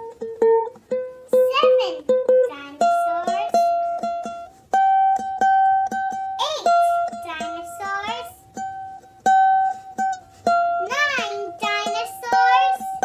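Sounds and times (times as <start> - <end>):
plucked string instrument tune: 0.0 - 13.0.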